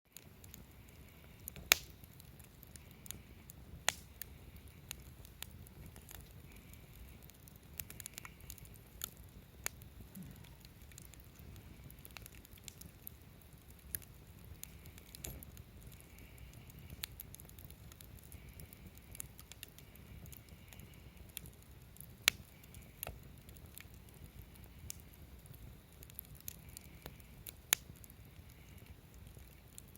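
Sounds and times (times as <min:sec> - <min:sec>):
campfire crackling and popping: 0:00.1 - 0:29.9
low rumble of flames: 0:00.1 - 0:29.9.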